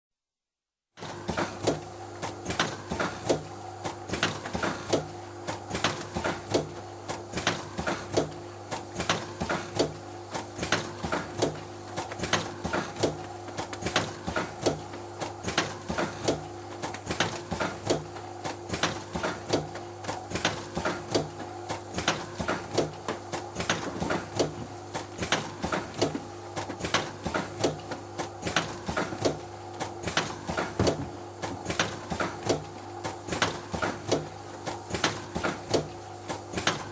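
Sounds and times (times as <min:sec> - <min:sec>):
mechanical hum: 0:01.0 - 0:36.9.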